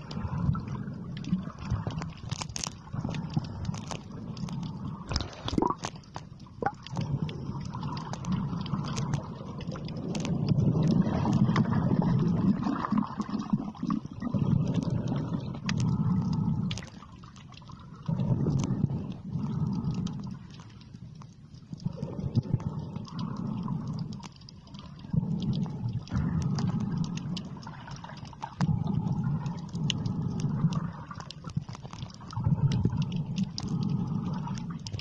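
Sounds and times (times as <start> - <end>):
muffled underwater rumble: 0.0 - 35.0
underwater clicks and gurgles: 0.0 - 35.0.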